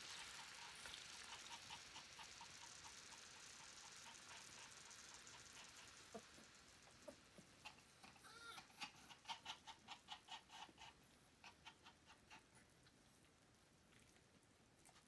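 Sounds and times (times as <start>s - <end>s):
dog panting: 0.0s - 13.4s.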